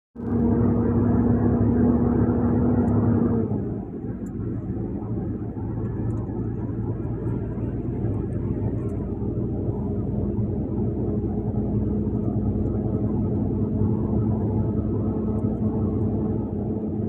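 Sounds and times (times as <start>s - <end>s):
road noise: 0.2s - 17.0s
vehicle engine droning: 0.2s - 17.0s.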